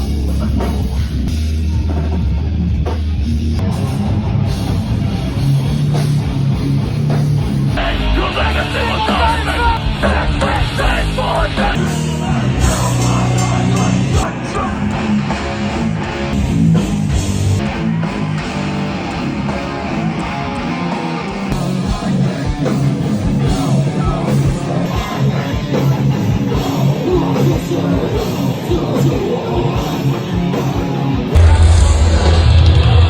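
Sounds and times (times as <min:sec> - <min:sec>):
heavy rock music: 0:00.0 - 0:33.0.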